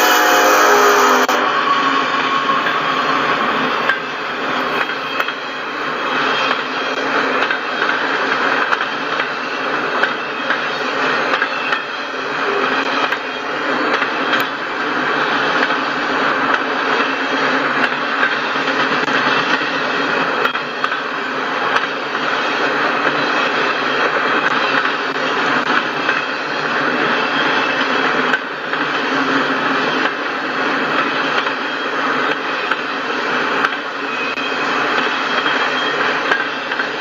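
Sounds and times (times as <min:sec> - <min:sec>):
freight train wheels on rail: 0:00.0 - 0:37.0.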